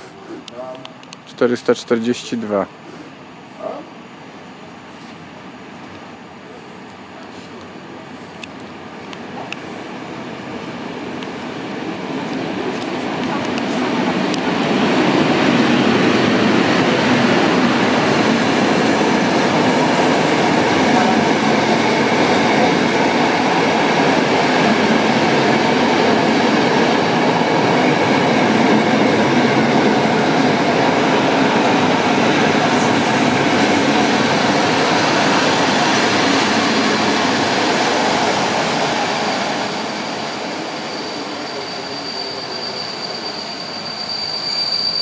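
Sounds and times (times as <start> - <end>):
train wheels rumbling on rails: 6.7 - 44.1.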